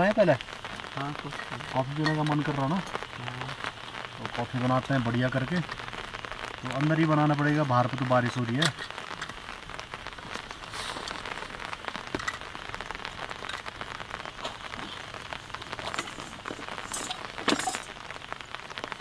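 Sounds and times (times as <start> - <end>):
heavy rain on a tent: 0.0 - 19.0.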